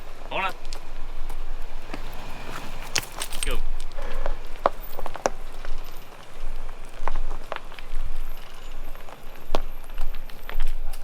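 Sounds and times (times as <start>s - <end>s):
tyres crunching over gravel: 0.0s - 11.0s
stones clicking and knocking: 0.6s - 11.0s.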